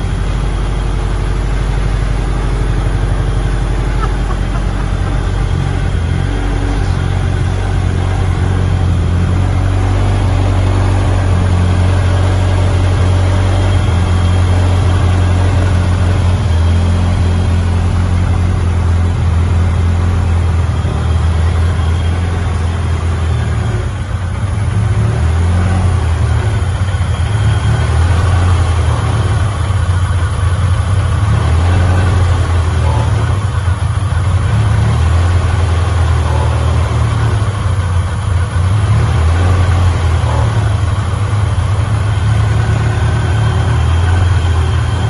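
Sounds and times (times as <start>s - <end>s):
car engine running: 0.0s - 45.0s.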